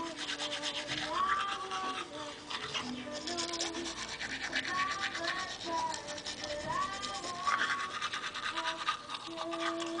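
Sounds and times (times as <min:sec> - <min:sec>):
toothbrush scrubbing teeth: 0:00.0 - 0:10.0.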